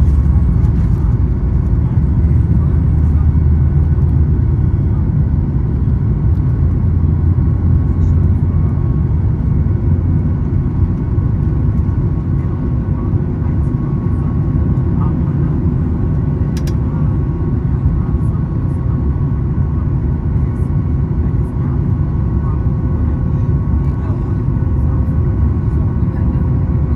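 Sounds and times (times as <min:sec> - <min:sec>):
jet engine rumble in cabin: 0:00.0 - 0:26.9.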